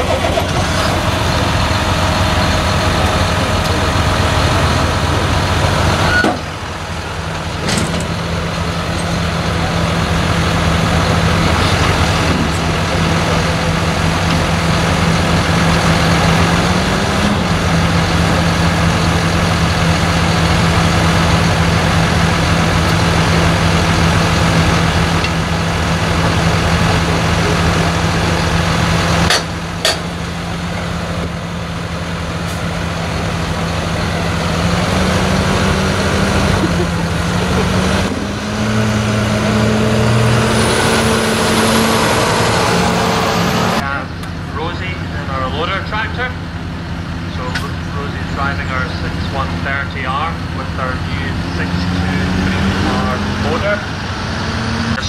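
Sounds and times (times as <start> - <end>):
tractor engine running: 0.0 - 54.2.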